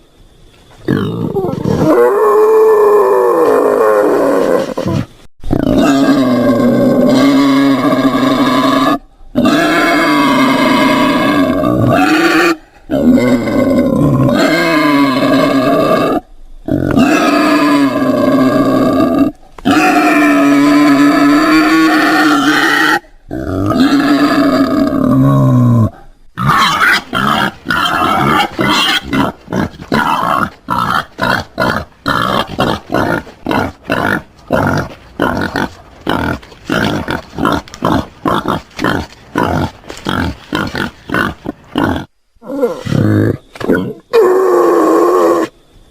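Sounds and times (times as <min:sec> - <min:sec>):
wild boar calling: 0:00.9 - 0:45.5
wild boar grunting: 0:04.2 - 0:45.5.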